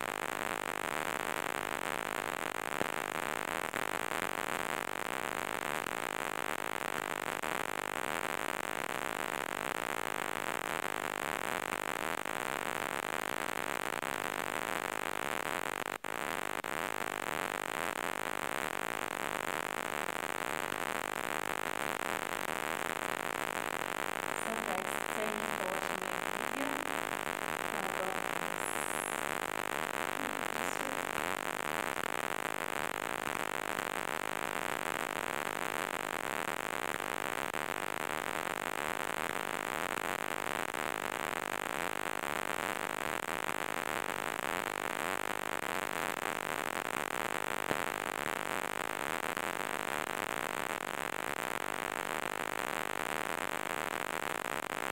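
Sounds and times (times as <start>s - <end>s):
static hiss: 0.0s - 54.9s.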